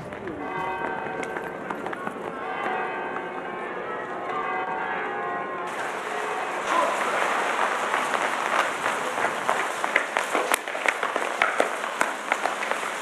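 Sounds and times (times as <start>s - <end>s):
people running on stone: 0.0s - 3.3s, 5.7s - 13.0s.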